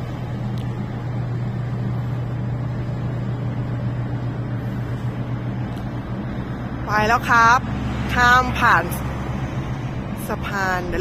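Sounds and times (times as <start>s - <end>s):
ship engine droning hum: 0.0s - 11.0s.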